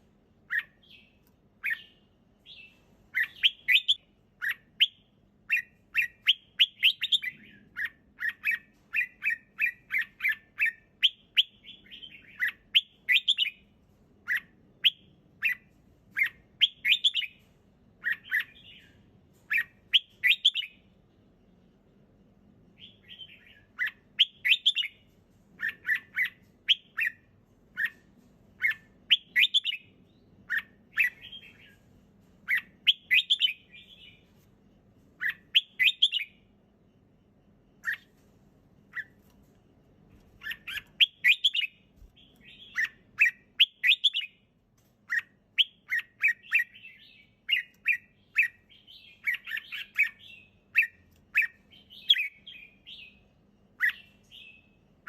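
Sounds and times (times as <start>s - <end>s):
bird singing: 0.5s - 13.6s, 14.3s - 17.4s, 18.0s - 20.9s, 22.8s - 28.0s, 28.6s - 31.8s, 32.4s - 34.3s, 35.2s - 36.5s, 40.4s - 44.4s, 45.1s - 54.8s.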